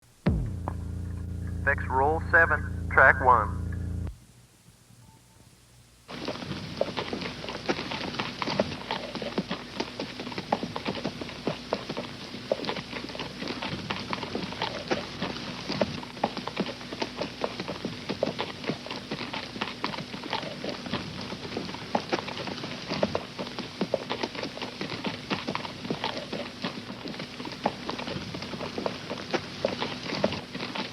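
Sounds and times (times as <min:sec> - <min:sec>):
horse hooves clip-clopping: 0:06.1 - 0:30.9.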